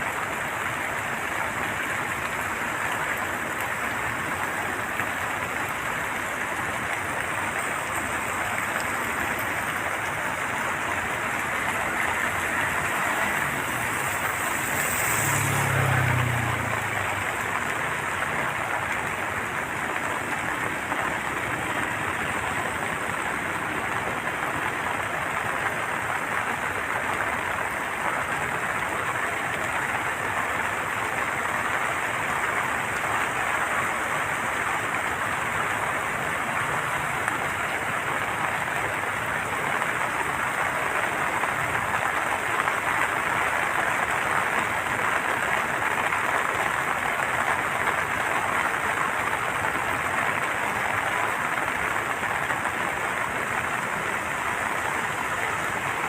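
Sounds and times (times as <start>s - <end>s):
water rushing through floodgates: 0.0s - 56.0s.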